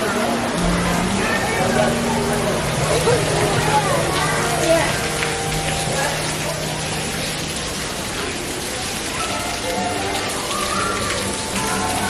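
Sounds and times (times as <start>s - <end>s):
faint music: 0.0s - 12.0s
indoor crowd chattering: 0.0s - 12.0s.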